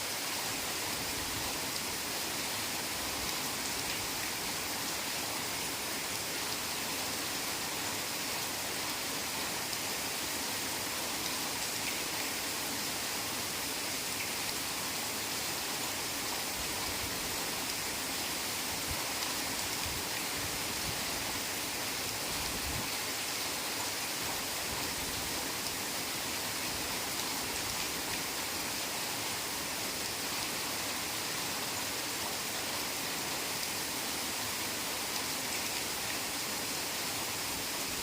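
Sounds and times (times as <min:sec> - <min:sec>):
heavy rain in forest: 0:00.0 - 0:38.0.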